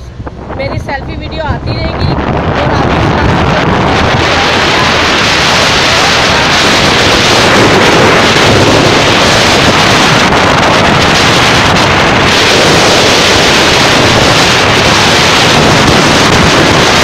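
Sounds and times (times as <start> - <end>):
wind blowing across microphone: 0.0 - 17.0.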